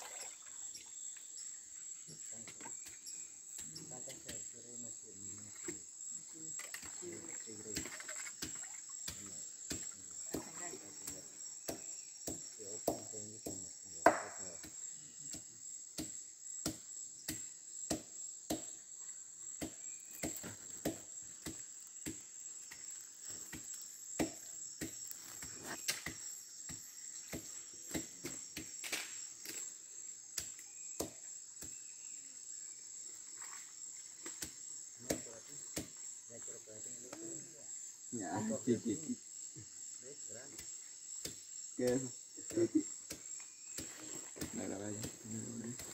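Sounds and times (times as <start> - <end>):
insects droning: 0.0 - 45.9.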